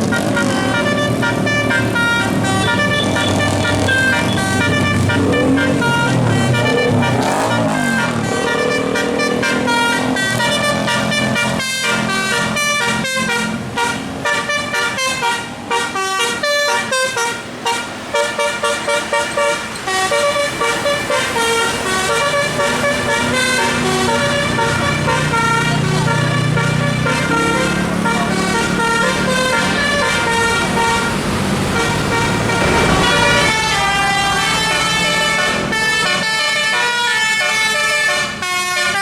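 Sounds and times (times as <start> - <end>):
bus engine running: 0.0 - 38.7
musical air horn playing a tune: 0.0 - 39.0.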